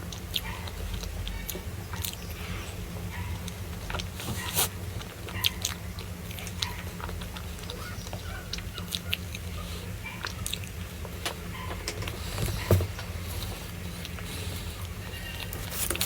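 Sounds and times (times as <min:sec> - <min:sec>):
biting and chewing crunches: 0:00.0 - 0:16.0.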